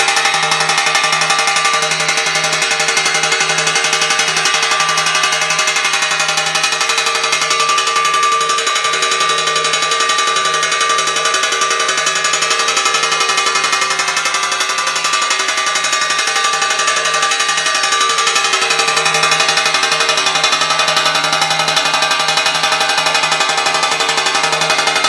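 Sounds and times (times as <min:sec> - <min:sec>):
electric motor: 0:00.0 - 0:25.0.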